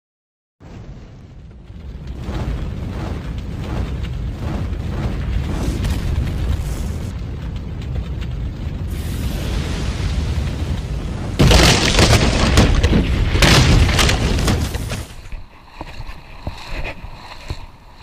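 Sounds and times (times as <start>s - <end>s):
deep fiery rumble: 0.6s - 18.0s.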